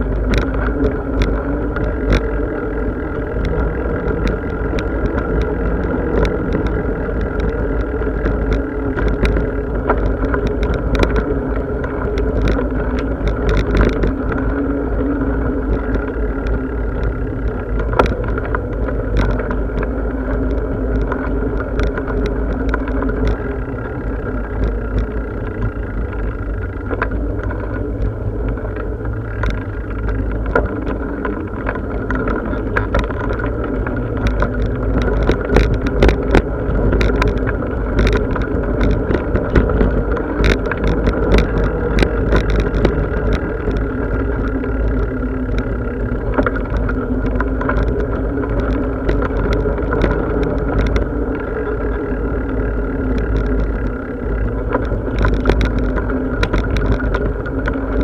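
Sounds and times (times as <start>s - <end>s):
bicycle rattles and clicks: 0.0s - 58.0s
bicycle tyres and drivetrain whirring: 0.0s - 58.0s.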